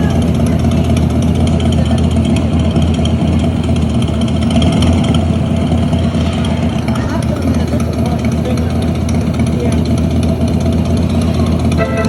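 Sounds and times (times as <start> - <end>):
roller coaster rolling on track: 0.0 - 12.0.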